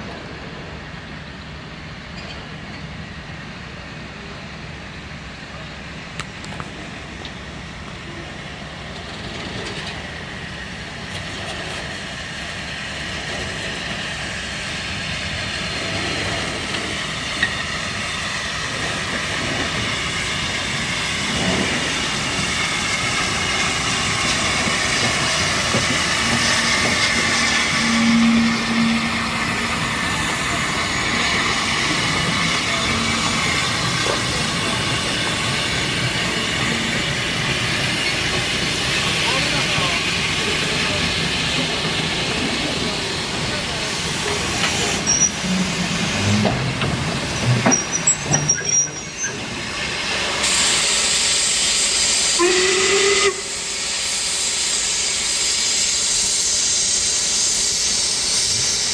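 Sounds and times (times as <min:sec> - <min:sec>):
steam train approaching: 0:00.0 - 0:58.9.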